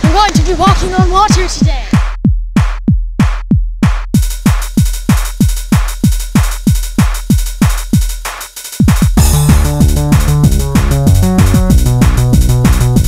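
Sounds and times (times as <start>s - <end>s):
drum machine kick: 0.0s - 13.0s
hi-hat hits: 2.0s - 13.0s.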